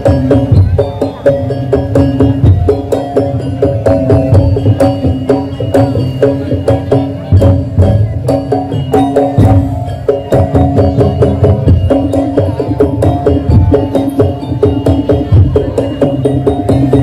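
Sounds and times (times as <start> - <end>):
deep drums: 0.0 - 17.0
fast pitched percussion notes: 0.0 - 17.0
percussion ensemble playing loudly: 0.0 - 17.0.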